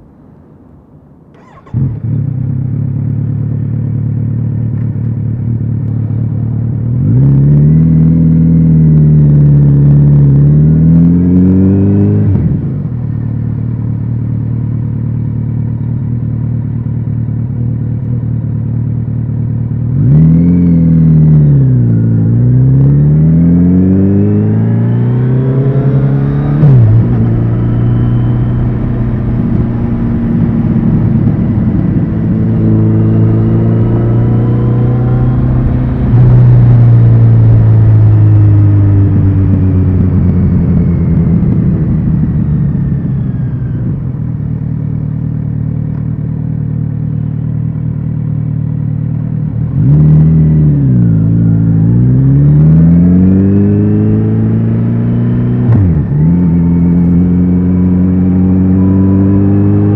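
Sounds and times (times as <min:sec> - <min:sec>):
motorcycle engine revving and idling: 0:01.3 - 0:59.9.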